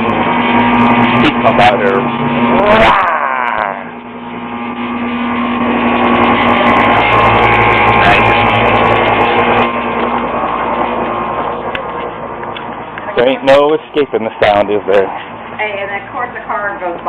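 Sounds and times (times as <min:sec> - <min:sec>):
heat pump rattling hum: 0:00.0 - 0:17.0.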